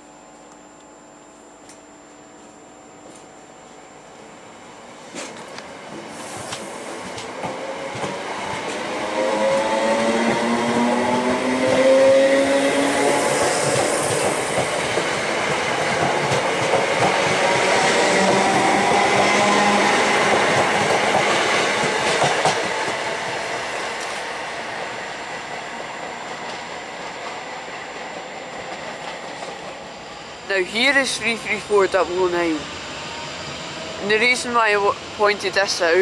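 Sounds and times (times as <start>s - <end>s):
electric train motor whine: 0.0s - 34.3s
train wheel and rail noise: 2.4s - 36.0s.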